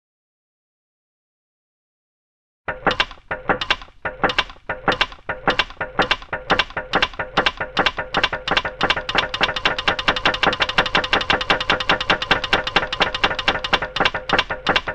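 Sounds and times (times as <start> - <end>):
sharp strummed strokes: 2.7 - 14.9.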